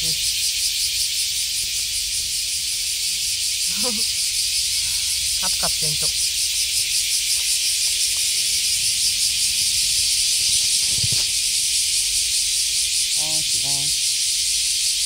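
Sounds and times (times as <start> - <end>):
cicadas chorus: 0.0 - 15.0.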